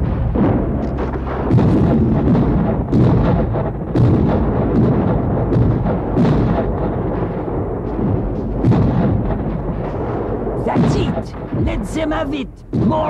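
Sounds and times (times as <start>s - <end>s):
background music: 0.0s - 13.0s
cartoon cannon booms: 0.0s - 13.0s.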